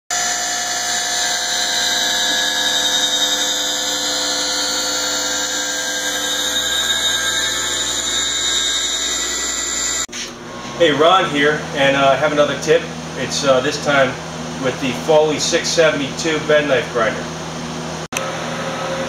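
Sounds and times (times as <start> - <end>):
grinding machine whine and hiss: 0.1 - 19.0.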